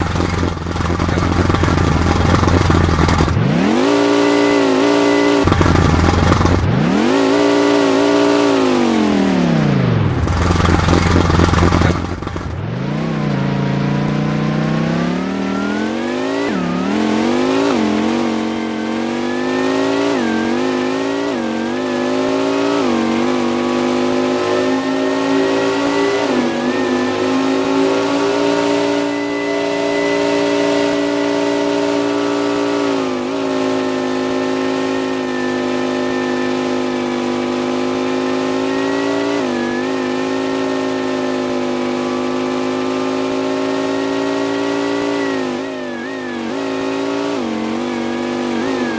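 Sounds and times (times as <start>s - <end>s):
loud engine note: 0.0s - 48.9s.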